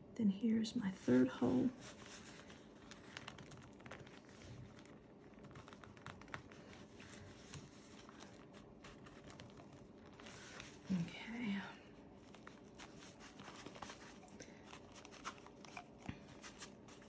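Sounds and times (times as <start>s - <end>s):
paper rustling and clicking: 1.8s - 10.9s, 12.2s - 17.0s.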